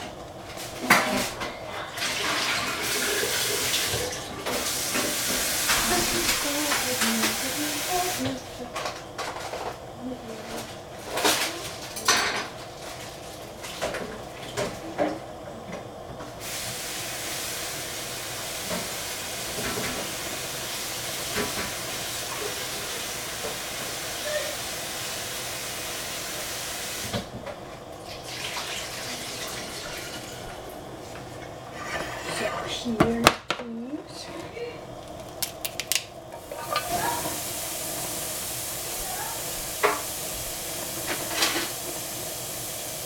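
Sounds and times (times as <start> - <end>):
kitchen tap running water: 0.0 - 43.0.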